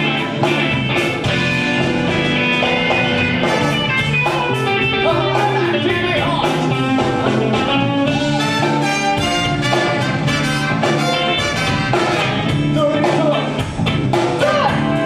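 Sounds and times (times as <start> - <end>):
drum beat: 0.0 - 15.0
electric guitar: 0.0 - 15.0
live blues-rock band: 0.0 - 15.0.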